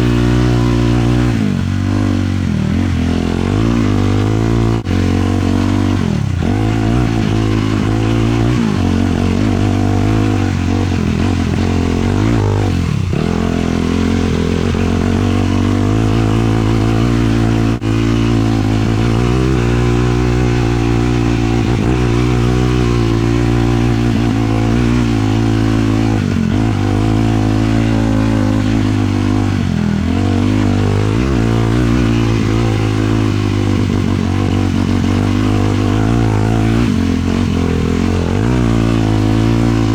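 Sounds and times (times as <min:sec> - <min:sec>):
quad bike engine running hard: 0:00.0 - 0:39.9.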